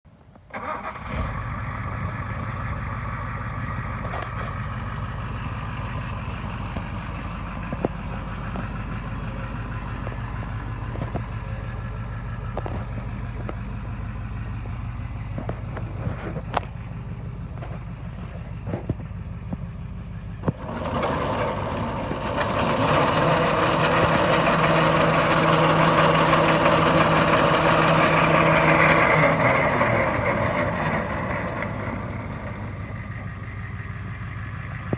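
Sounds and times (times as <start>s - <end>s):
truck engine starting and revving: 0.4s - 34.9s.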